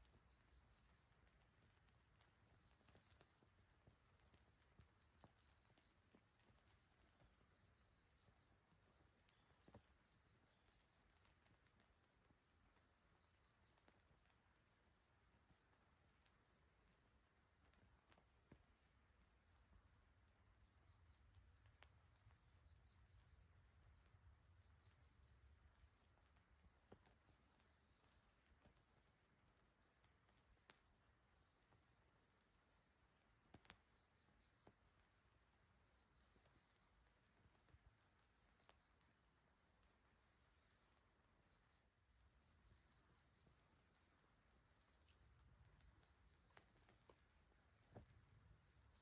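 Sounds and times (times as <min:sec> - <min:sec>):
insects chirping: 0:00.0 - 0:49.0.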